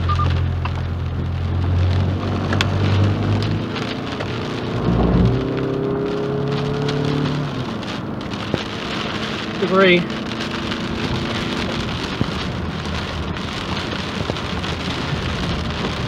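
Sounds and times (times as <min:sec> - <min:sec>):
car engine and road hum: 0:00.0 - 0:16.0
rain on a car: 0:00.0 - 0:16.0.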